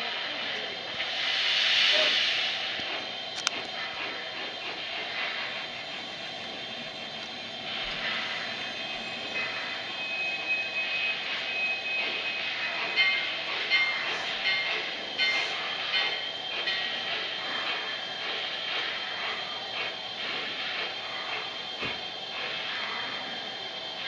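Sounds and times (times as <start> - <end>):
model steam locomotive chuffing: 0.0 - 24.0
steady steam hiss: 0.0 - 24.0.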